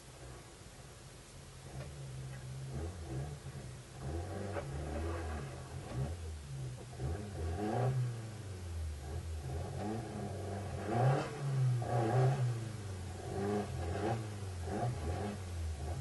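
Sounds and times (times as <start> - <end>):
rally car engine revving: 1.6 - 16.0.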